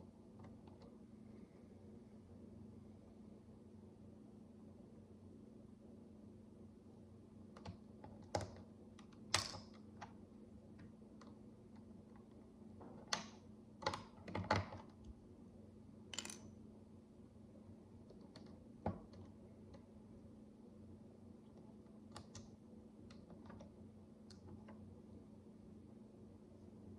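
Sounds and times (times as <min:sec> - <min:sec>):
faint low hum: 0:00.0 - 0:26.9.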